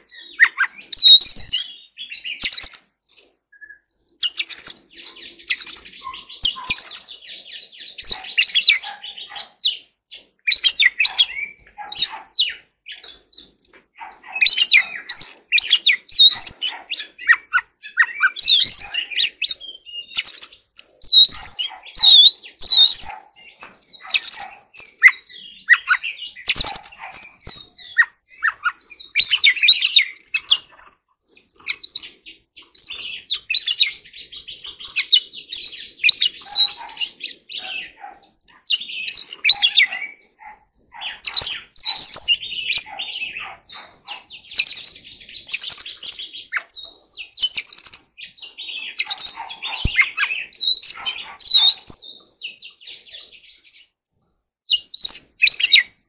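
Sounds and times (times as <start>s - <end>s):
bird singing whistled phrases: 0.0s - 56.0s.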